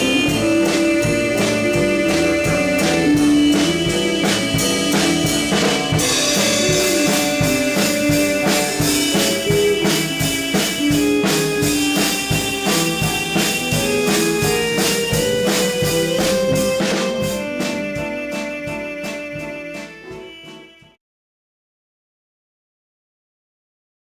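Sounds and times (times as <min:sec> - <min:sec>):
drum kit beat: 0:00.0 - 0:21.0
rock band playing instrumental: 0:00.0 - 0:21.0.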